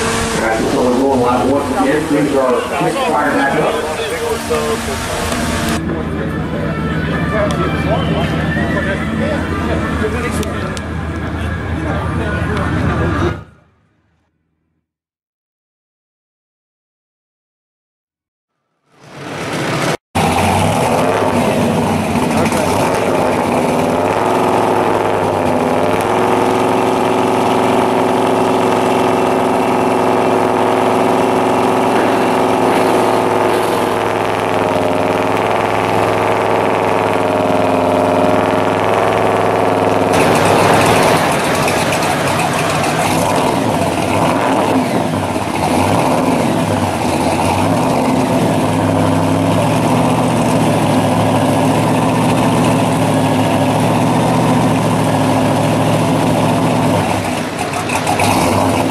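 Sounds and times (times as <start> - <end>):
supercharged car engine idling and revving: 0.0 - 13.8, 18.8 - 58.9.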